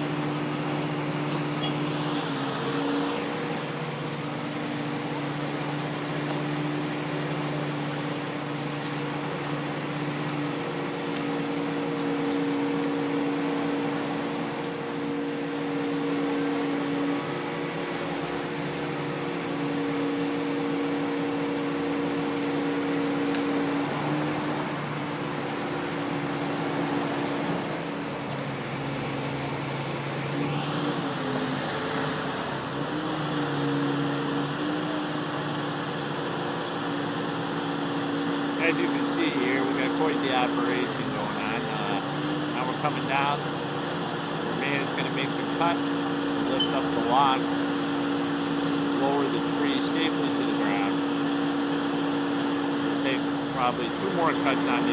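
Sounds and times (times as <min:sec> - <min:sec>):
crane engine humming: 0:00.0 - 0:54.9.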